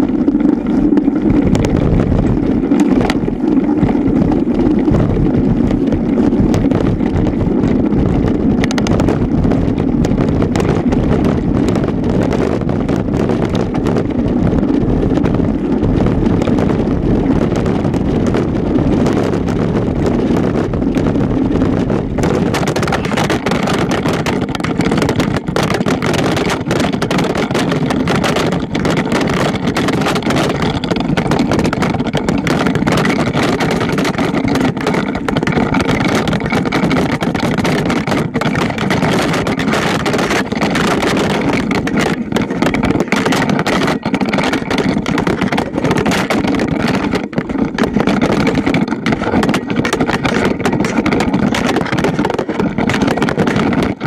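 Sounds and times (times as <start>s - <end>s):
bike rattling over rough dirt: 0.0s - 54.0s
wind buffeting microphone: 0.0s - 54.0s
camera knocking against bike: 1.2s - 54.0s.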